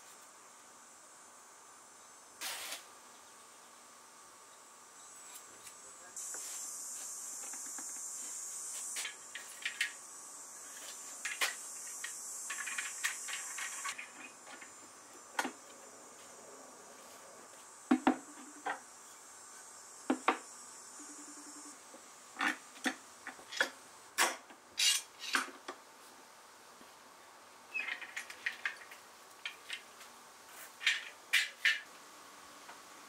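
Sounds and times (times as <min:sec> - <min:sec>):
steady high hiss: 0:00.0 - 0:33.0.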